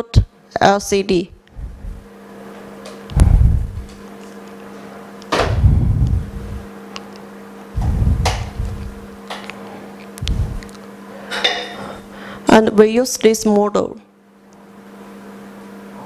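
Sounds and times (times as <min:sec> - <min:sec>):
electric machine hum: 0:00.0 - 0:16.0.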